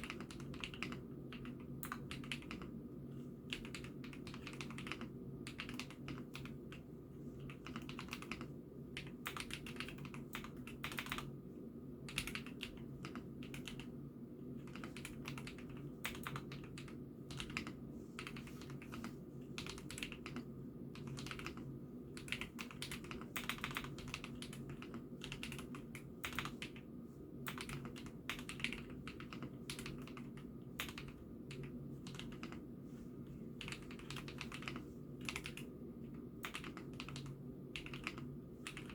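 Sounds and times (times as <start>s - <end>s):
mechanical keyboard typing: 0.0s - 2.7s, 3.5s - 11.3s, 12.1s - 13.9s, 14.6s - 21.6s, 22.2s - 26.9s, 27.5s - 32.6s, 33.6s - 35.7s, 36.4s - 38.9s
low steady hum: 0.0s - 38.9s.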